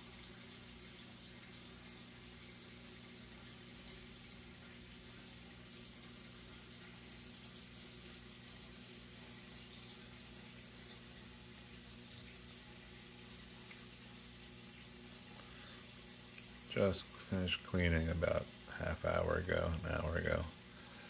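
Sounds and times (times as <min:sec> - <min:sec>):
water trickling: 0:00.0 - 0:21.0.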